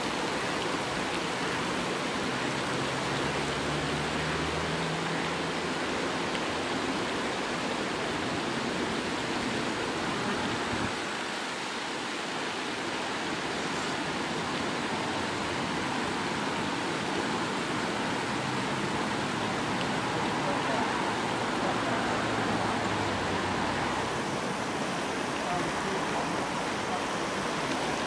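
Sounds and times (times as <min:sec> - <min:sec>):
rushing hiss of outdoor noise: 0:00.0 - 0:28.0.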